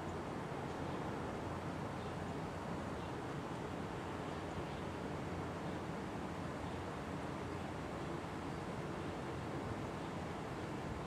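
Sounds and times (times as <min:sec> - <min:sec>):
low outdoor rumble and hiss: 0:00.0 - 0:11.0.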